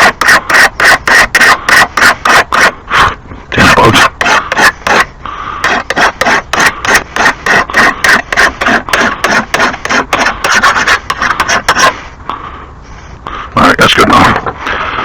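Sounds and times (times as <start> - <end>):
rhythmic scraping strokes: 0.0 - 12.2.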